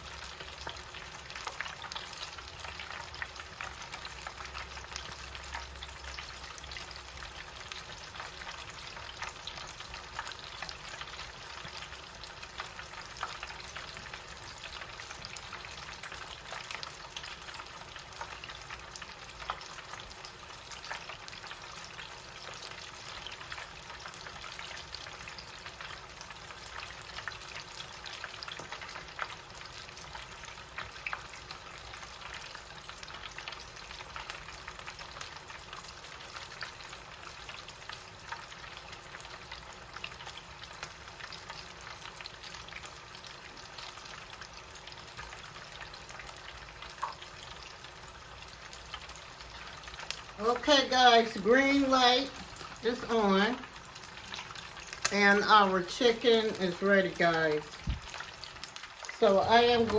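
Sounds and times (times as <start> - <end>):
chicken sizzling in hot oil: 0.0 - 59.9.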